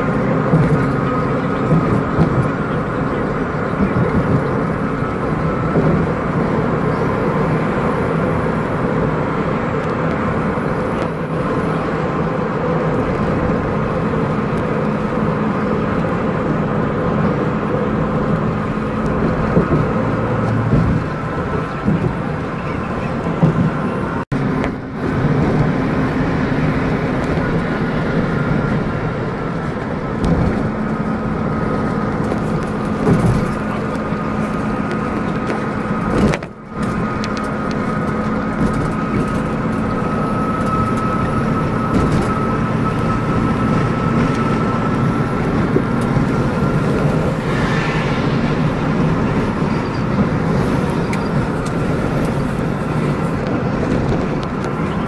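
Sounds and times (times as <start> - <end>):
coach engine and road noise: 0.0 - 55.0.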